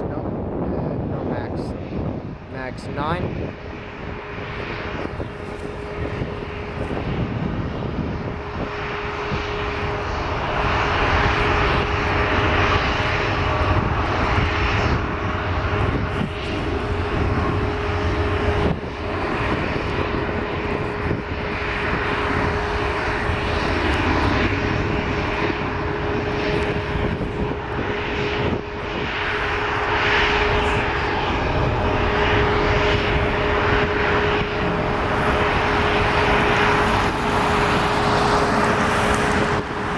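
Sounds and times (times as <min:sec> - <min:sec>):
jet engines rushing: 0:00.0 - 0:39.9
steady hum: 0:01.2 - 0:39.9.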